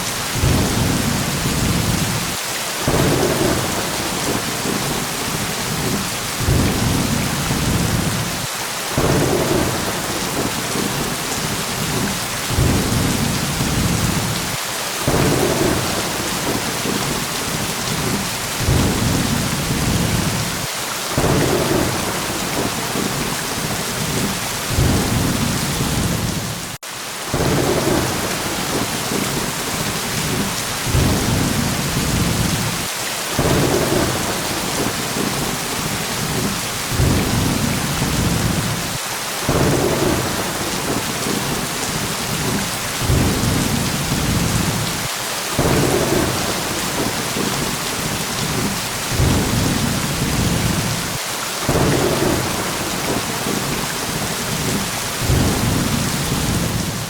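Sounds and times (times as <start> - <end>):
heavy rain hissing: 0.0 - 57.0
low rolling thunder: 0.4 - 2.3, 2.9 - 38.9, 39.5 - 51.0, 51.7 - 57.0.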